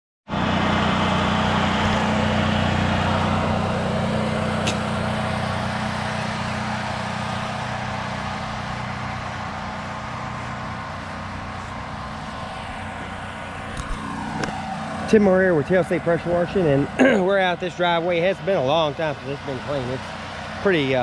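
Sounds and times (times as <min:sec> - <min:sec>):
engine running: 0:00.3 - 0:21.0.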